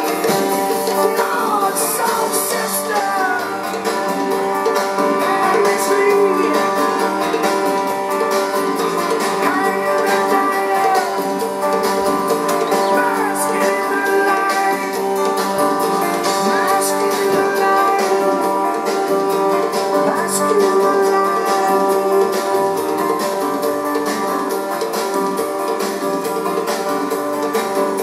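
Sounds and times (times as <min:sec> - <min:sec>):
guitar background music: 0:00.0 - 0:28.0.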